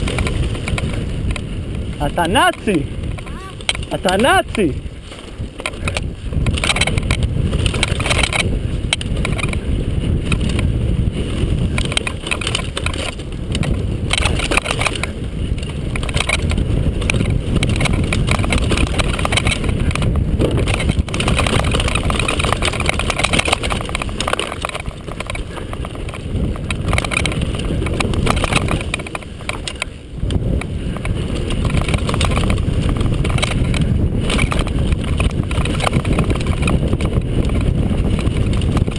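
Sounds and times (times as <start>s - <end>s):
bike clattering over bumps: 0.0s - 38.9s
tyres rumbling over dirt and stones: 0.0s - 38.9s
wind buffeting microphone: 0.0s - 38.9s.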